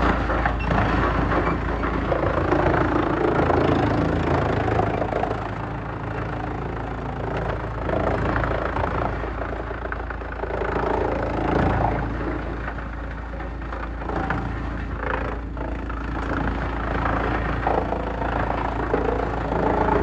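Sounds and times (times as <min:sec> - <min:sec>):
rough grinding noise: 0:00.0 - 0:20.0
wood chipper engine droning: 0:00.0 - 0:20.0.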